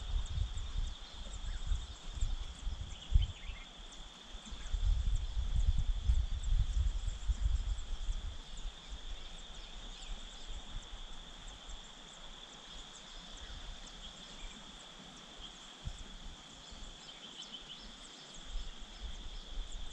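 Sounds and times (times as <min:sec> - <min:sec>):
low wind rumble on microphone: 0:00.0 - 0:19.9.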